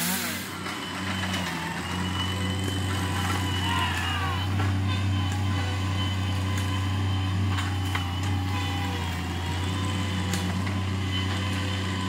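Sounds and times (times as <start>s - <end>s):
loader engine drone with whine: 0.0s - 12.0s.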